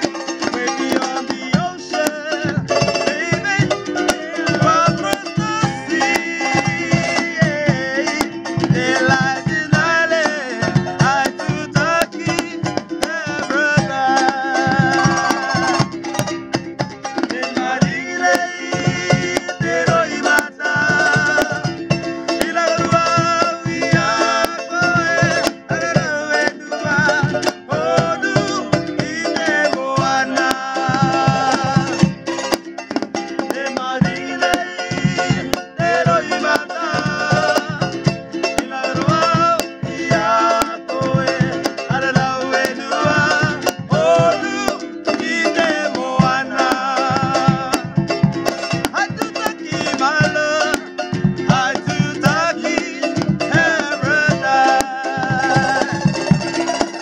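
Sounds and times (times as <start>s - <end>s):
men singing together: 0.0s - 16.2s, 17.1s - 32.6s, 33.3s - 56.8s
drum beaten in steady rhythm: 0.0s - 57.0s
strummed ukuleles: 0.0s - 57.0s.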